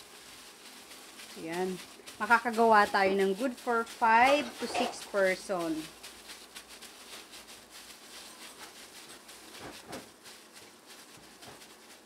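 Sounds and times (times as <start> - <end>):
hands squishing raw ground beef: 0.0 - 12.0
plastic gloves crinkling: 0.0 - 12.0.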